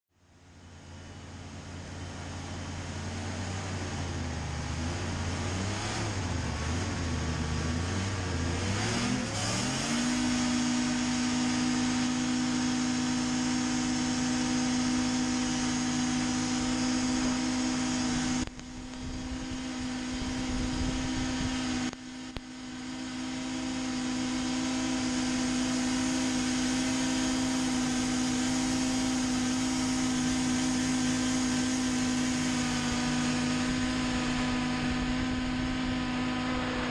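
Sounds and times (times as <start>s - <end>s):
hovercraft engine: 0.1s - 36.9s.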